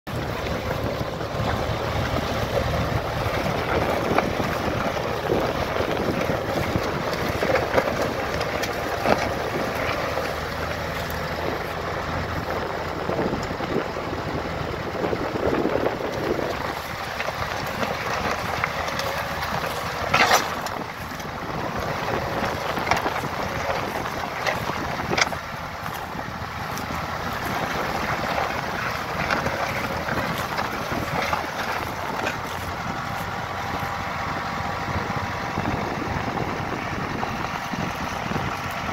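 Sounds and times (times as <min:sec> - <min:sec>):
tractor engine running: 0:00.0 - 0:38.9
wind on microphone: 0:02.1 - 0:38.9.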